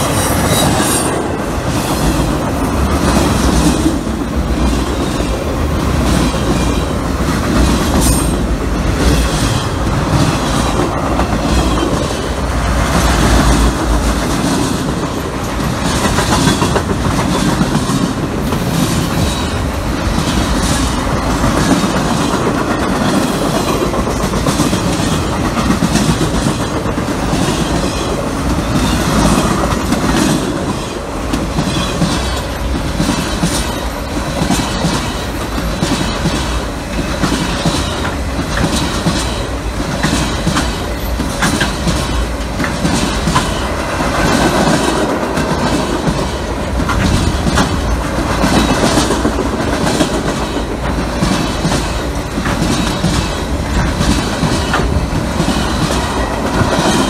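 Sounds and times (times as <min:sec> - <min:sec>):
freight train wheels clicking: 0:00.0 - 0:57.0.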